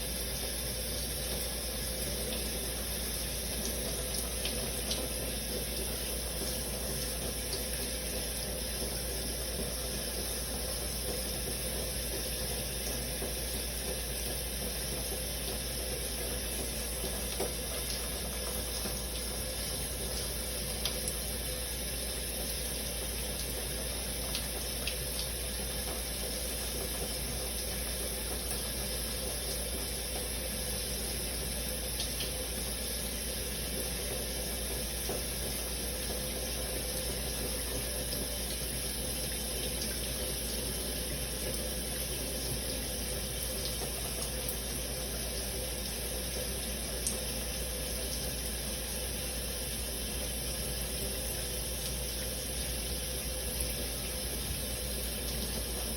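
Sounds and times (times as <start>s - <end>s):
shower running: 0.0s - 55.9s.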